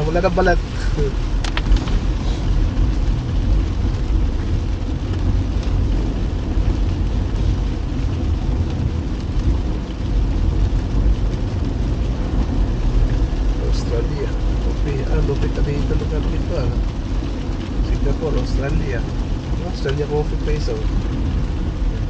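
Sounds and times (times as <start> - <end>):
rain on a moving car: 0.0 - 22.0
rumble of tyres and engine: 0.0 - 22.0.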